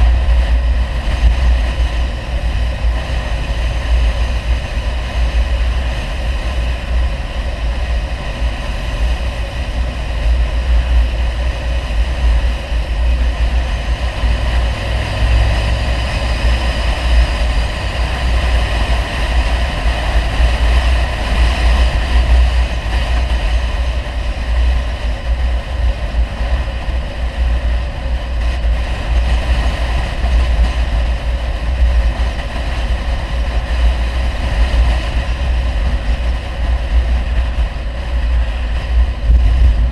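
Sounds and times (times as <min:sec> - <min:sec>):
car engine and exhaust drone: 0:00.0 - 0:39.9
road noise: 0:00.0 - 0:39.9.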